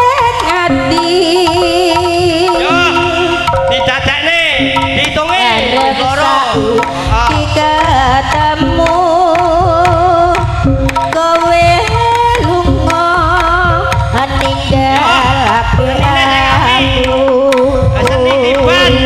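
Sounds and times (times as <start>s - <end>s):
wavering melody line: 0.0s - 19.0s.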